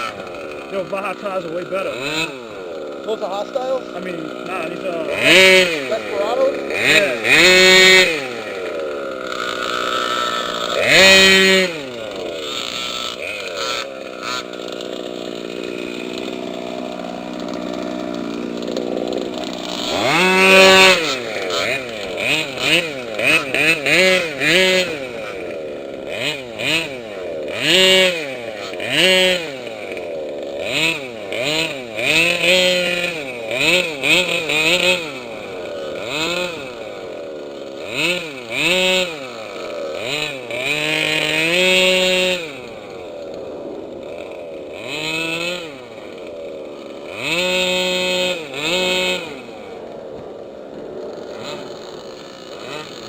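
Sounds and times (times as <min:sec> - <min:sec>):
small two-stroke engines revving: 0:00.0 - 0:53.0.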